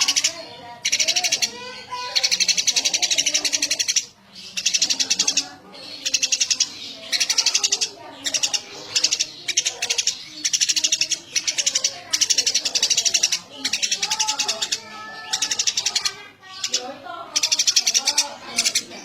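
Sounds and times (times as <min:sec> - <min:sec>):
sparrow chirping: 0:00.0 - 0:19.0.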